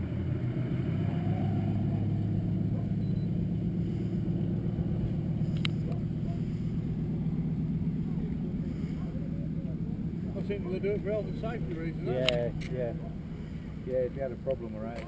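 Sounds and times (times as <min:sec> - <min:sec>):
distant aircraft engines droning: 0:00.0 - 0:15.0.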